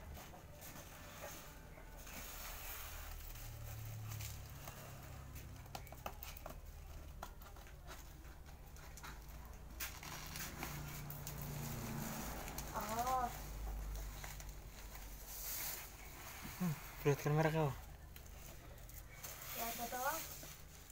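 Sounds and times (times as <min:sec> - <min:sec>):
plastic crinkling and rustling: 0:00.0 - 0:20.9.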